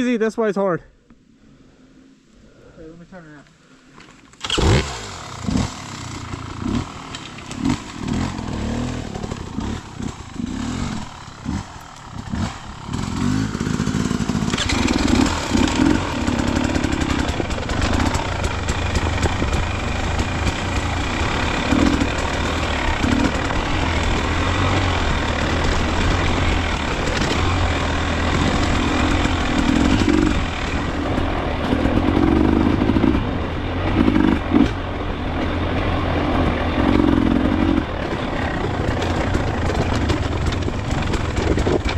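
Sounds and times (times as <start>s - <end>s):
dirt bike engine revving: 4.4s - 41.9s.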